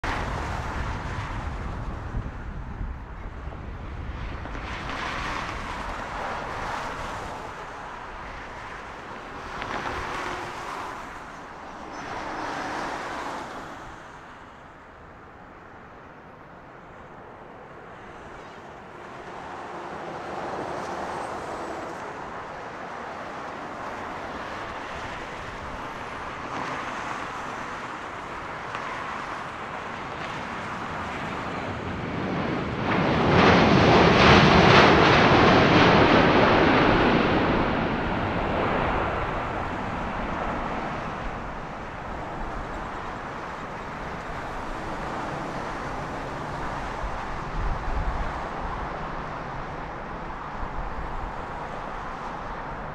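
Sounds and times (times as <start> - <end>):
jet airliner landing: 0.0 - 52.9.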